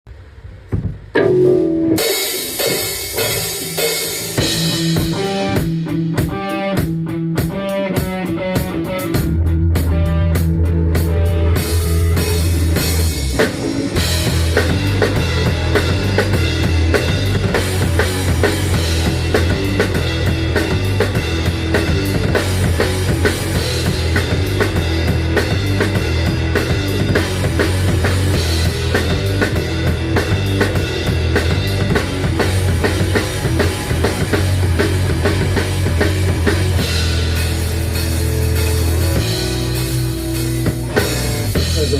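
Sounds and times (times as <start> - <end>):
instrumental rock band: 0.1 - 41.9.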